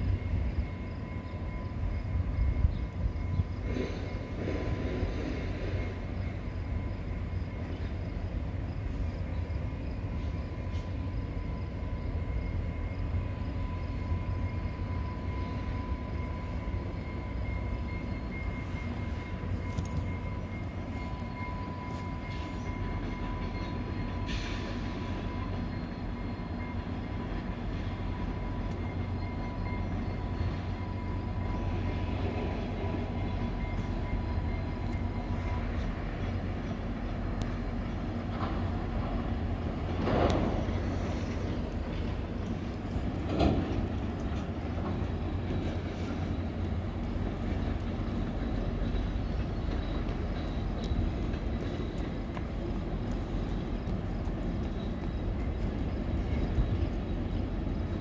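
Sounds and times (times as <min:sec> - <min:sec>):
distant train rumble: 0:00.0 - 0:58.0.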